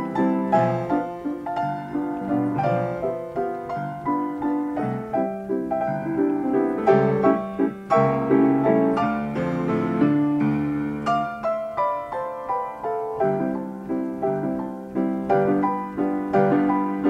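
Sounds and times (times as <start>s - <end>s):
player piano playing: 0.0s - 17.0s.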